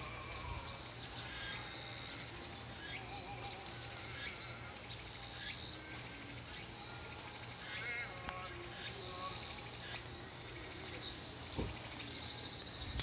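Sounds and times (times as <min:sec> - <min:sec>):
cicadas buzzing: 0:00.0 - 0:13.0.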